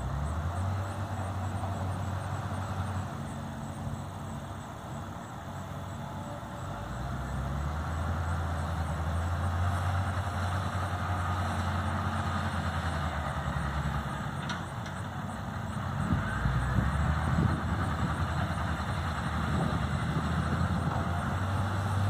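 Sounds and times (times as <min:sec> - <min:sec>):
loader diesel engine humming: 0:00.0 - 0:22.0.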